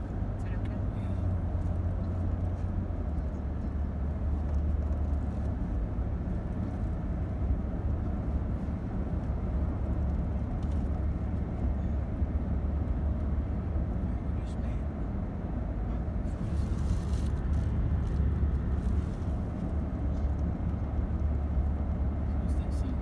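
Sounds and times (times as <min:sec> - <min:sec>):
vehicle rumble from inside cabin: 0:00.0 - 0:23.0.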